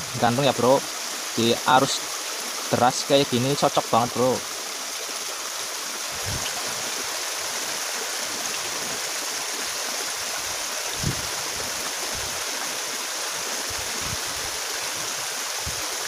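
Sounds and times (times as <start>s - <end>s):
stream rushing over cascade: 0.0s - 16.0s.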